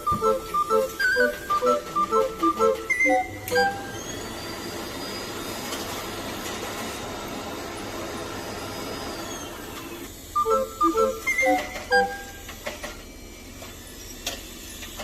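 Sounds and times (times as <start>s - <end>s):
electric machine motor whine: 0.0s - 15.0s.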